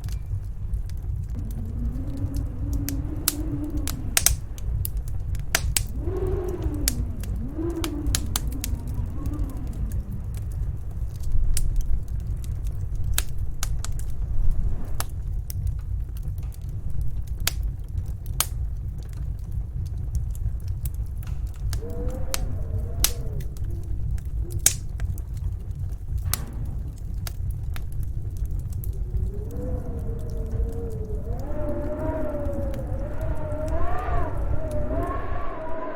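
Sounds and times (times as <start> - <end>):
howling storm wind: 0.0 - 35.9
wood fire crackling and popping: 0.0 - 35.9.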